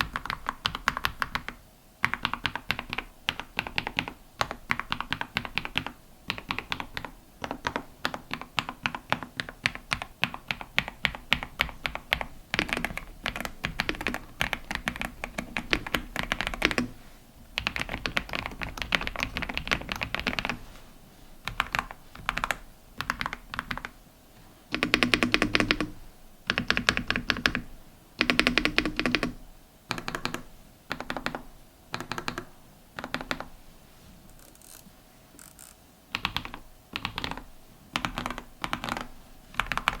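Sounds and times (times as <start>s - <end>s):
mechanical keyboard typing: 0.0s - 17.0s, 17.6s - 20.6s, 21.5s - 24.0s, 24.7s - 33.5s, 35.4s - 40.0s.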